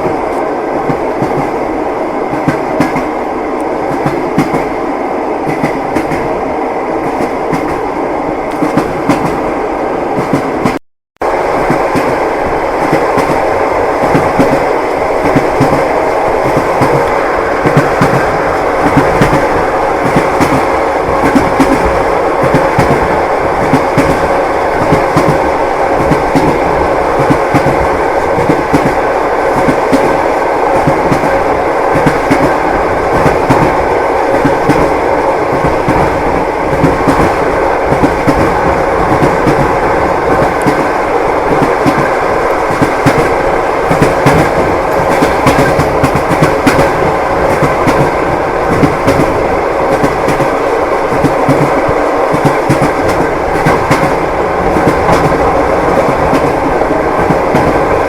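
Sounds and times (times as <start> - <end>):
train wheels clattering: 11.5 - 58.0.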